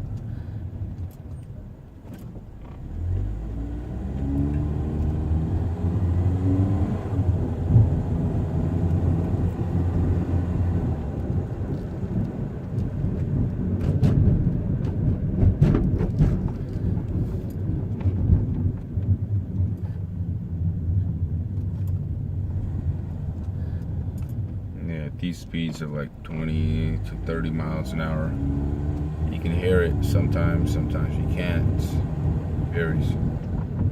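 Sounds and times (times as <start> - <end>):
car road noise rumble: 0.0 - 33.9.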